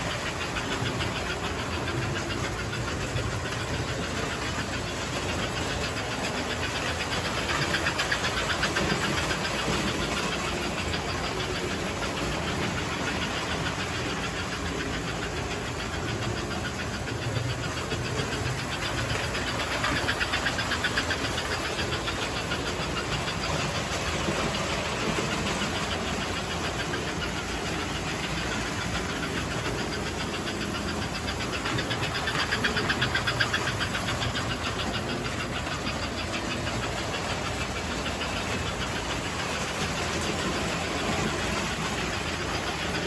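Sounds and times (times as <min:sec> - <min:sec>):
fast even clicking: 0:00.0 - 0:43.0
toy trains rumbling on metal track: 0:00.0 - 0:43.0.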